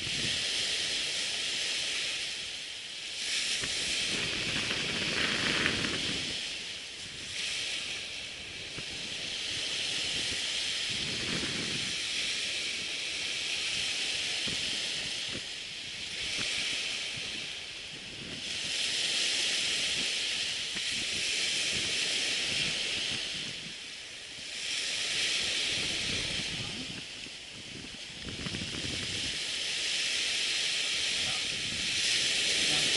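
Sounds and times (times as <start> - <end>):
surf washing onto beach: 0.0 - 32.9.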